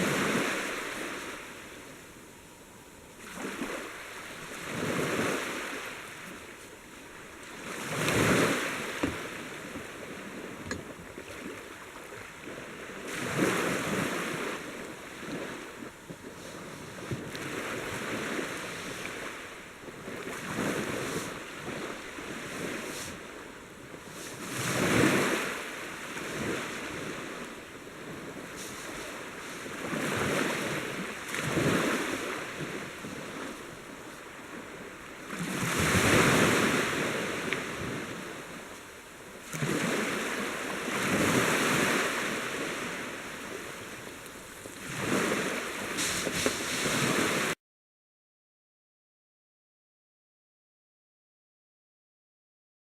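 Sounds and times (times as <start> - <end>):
sea water surging: 0.0 - 47.6.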